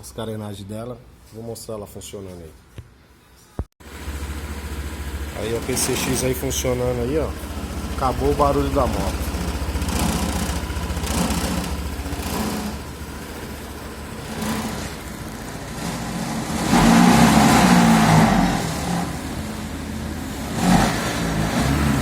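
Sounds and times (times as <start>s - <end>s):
scooter engine revving: 3.8s - 22.0s.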